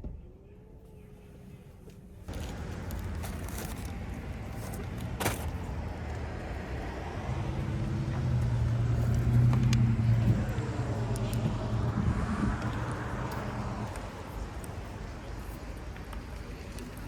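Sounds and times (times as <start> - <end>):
road and traffic noise: 0.3 - 17.0.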